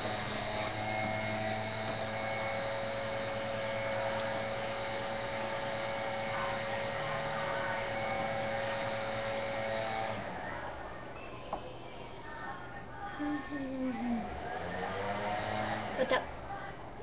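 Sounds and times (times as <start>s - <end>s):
electrical hum and hiss: 0.0s - 17.0s.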